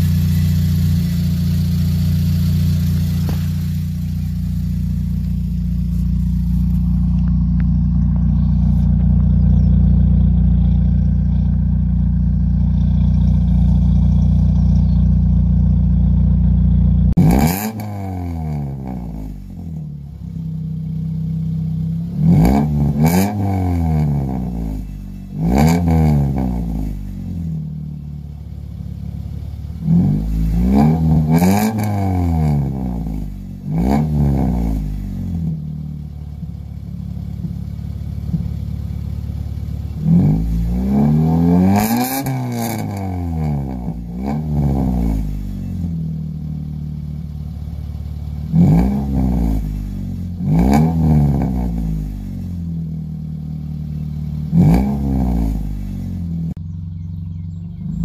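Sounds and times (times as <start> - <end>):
car exhaust idling and revving: 0.0 - 58.0.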